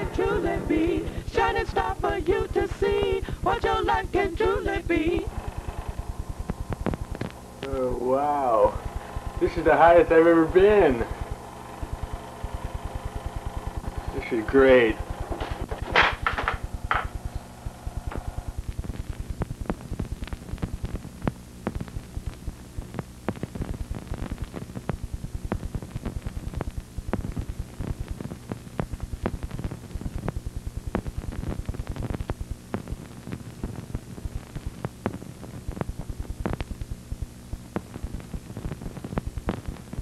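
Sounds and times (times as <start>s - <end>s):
crackling surface noise: 0.0s - 3.8s, 4.4s - 40.0s
mains hum: 0.0s - 40.0s.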